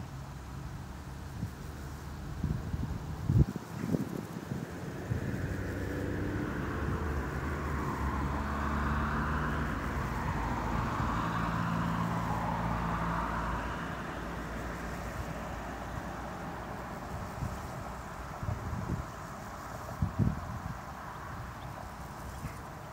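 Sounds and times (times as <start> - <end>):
vehicle passing by: 0.0 - 22.9.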